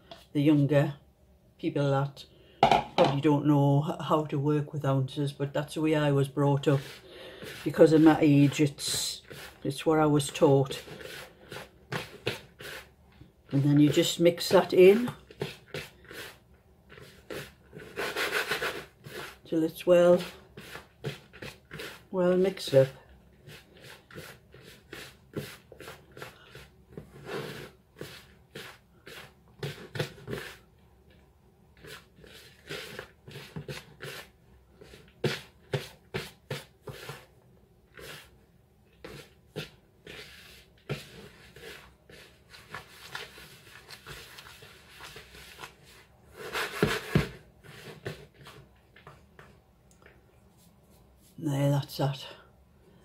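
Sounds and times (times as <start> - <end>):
hands mixing dough in plastic bowl: 5.2 - 52.2.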